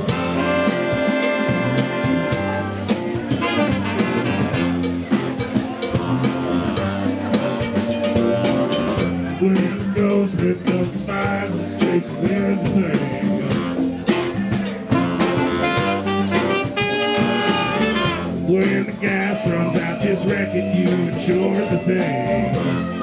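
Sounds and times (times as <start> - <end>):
drum kit steady beat: 0.0 - 23.0
live band playing: 0.0 - 23.0.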